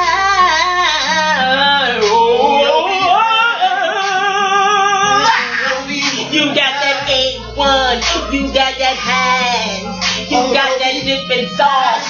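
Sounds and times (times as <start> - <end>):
backing track with steady bass: 0.0 - 12.0.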